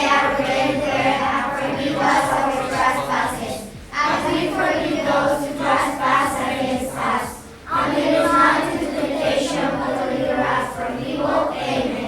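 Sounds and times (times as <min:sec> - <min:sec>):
girls singing together: 0:00.0 - 0:12.0.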